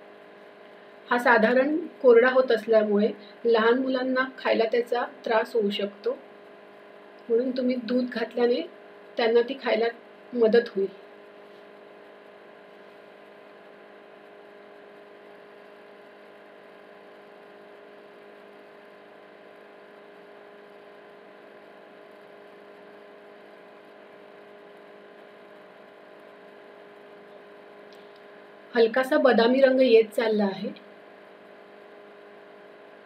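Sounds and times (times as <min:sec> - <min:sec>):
induction cooktop humming: 0:00.0 - 0:33.0.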